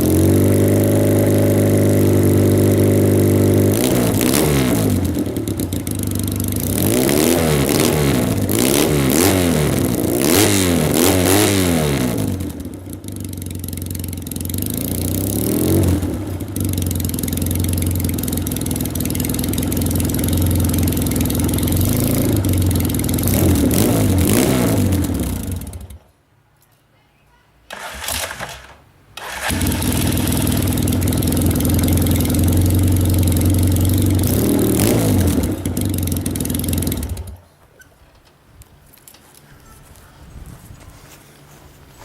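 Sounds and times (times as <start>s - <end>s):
motorcycle engine revving: 0.0s - 26.1s, 27.7s - 37.4s.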